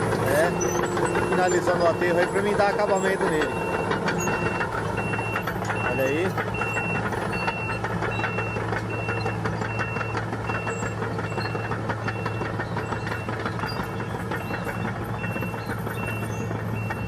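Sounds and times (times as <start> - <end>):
bulldozer engine running: 0.0 - 17.0
reversing alarm beeps: 0.3 - 17.0.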